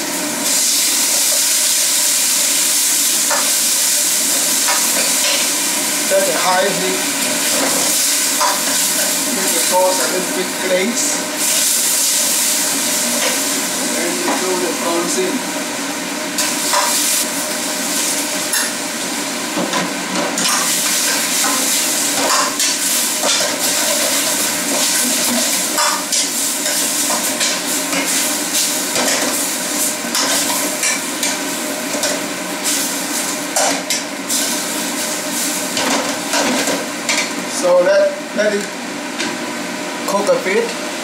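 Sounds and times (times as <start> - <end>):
prawns sizzling in a pan: 0.0 - 37.4.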